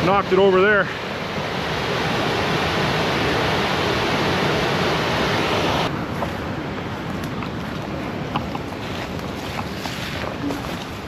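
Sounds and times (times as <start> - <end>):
river pouring over falls: 0.0 - 11.0.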